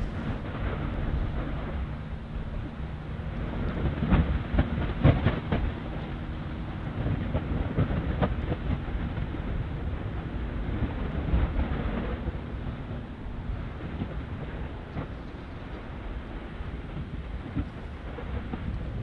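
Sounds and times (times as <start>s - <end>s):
volcano rumbling: 0.0s - 19.0s.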